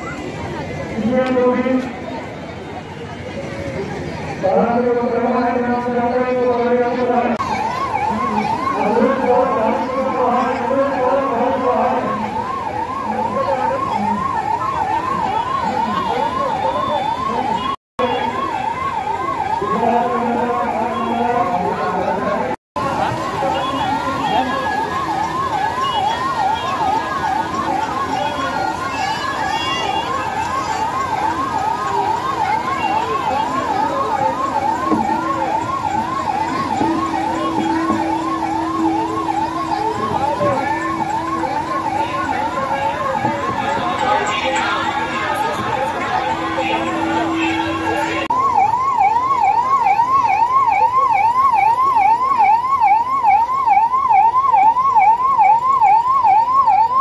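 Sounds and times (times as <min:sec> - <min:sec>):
ambulance siren warbling: 0:00.0 - 0:57.0.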